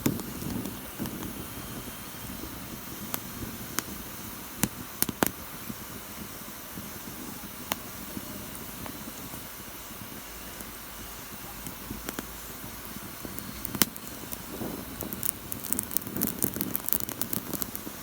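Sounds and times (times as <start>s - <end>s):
fire crackling and popping: 0.0s - 18.0s
fire hissing: 0.0s - 18.0s.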